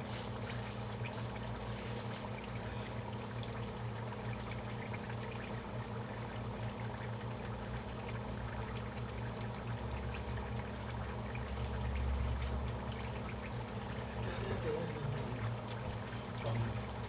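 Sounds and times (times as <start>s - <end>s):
potatoes deep-frying in oil: 0.0s - 17.0s.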